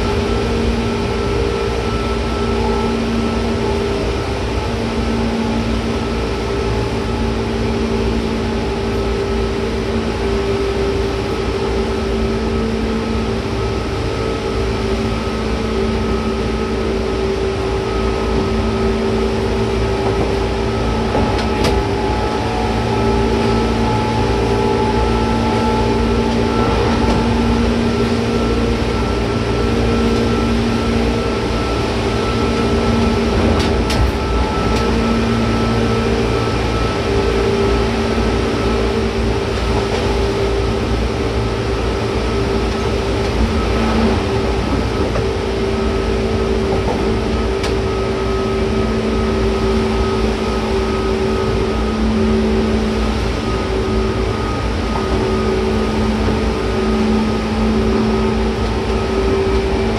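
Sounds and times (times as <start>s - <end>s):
train motor hum: 0.0s - 59.9s
train wheels rumbling on rail: 0.0s - 59.9s.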